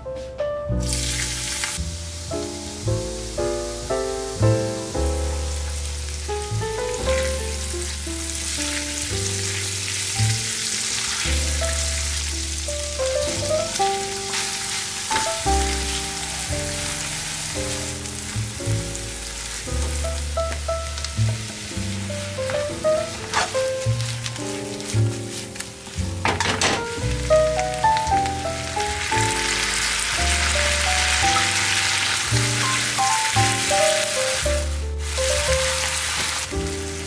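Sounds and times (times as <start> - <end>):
background music with bass: 0.0 - 37.0
oil sizzling in a frying pan: 0.8 - 37.0.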